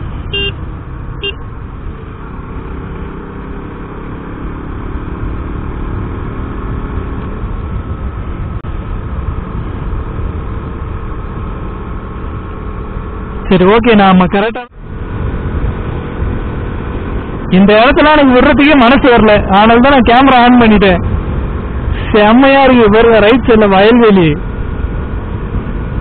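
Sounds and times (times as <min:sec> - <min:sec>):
motorcycle engine running: 0:00.0 - 0:13.6, 0:14.7 - 0:22.2
road noise rushing: 0:00.0 - 0:26.0.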